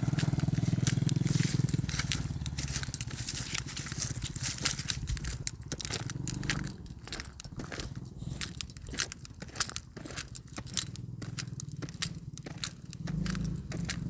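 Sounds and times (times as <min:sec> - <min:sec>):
crunching and crackling noises: 0:00.0 - 0:14.0
distant motorcycle engine: 0:00.0 - 0:14.0.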